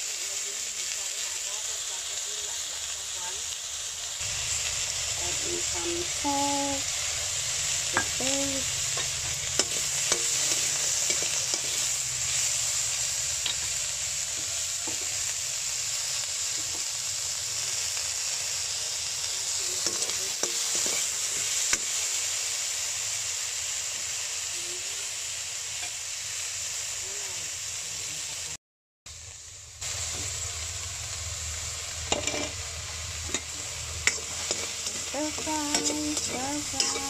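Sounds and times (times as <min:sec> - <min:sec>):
prawns sizzling in a wok: 0:00.0 - 0:37.0.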